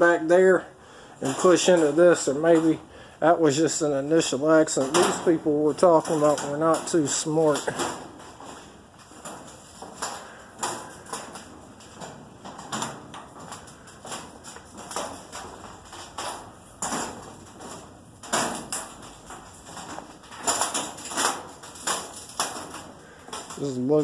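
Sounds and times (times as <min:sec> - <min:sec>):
footsteps on steel grating: 0:00.0 - 0:24.0.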